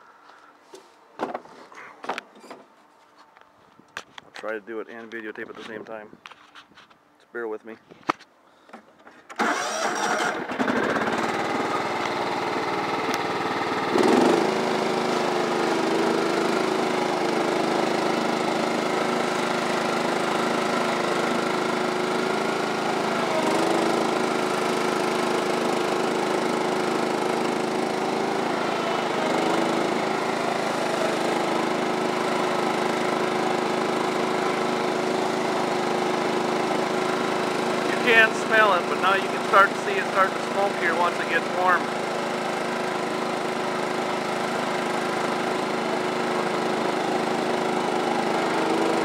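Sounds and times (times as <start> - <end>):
lawn tractor engine starting: 8.6 - 49.0.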